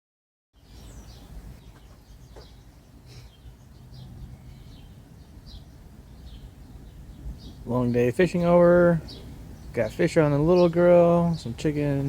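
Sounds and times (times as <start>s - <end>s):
small birds chirping: 0.6s - 12.0s
steady low rumble: 0.9s - 12.0s.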